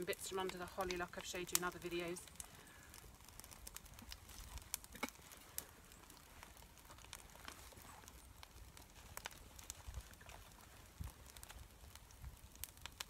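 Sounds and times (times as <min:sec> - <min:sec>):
small fire crackling: 0:00.0 - 0:13.0.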